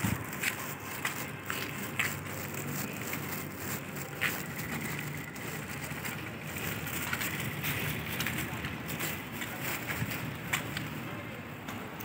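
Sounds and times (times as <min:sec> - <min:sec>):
footsteps on gritty road: 0:00.0 - 0:12.0.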